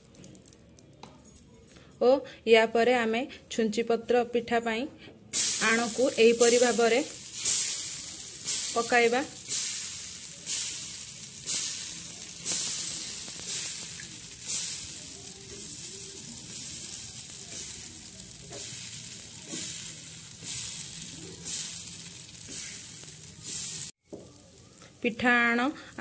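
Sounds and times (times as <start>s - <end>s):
batter sizzling on hot iron: 0.0s - 0.9s, 5.3s - 26.0s.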